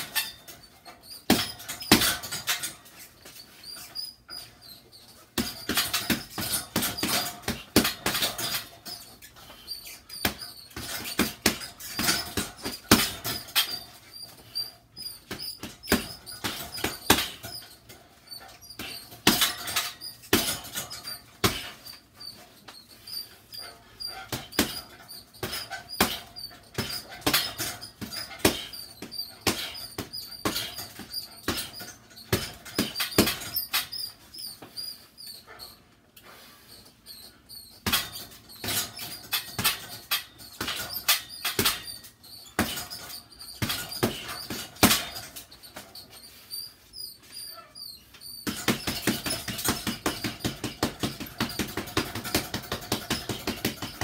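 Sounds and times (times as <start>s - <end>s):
boxing gloves punching heavy bag: 0.0s - 35.6s, 36.7s - 46.4s, 48.4s - 54.0s.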